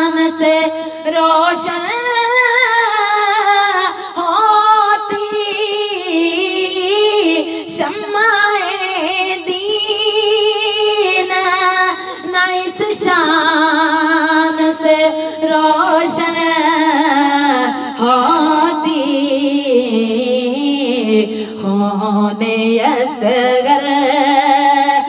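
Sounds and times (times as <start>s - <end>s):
woman singing devotional song: 0.0s - 25.0s.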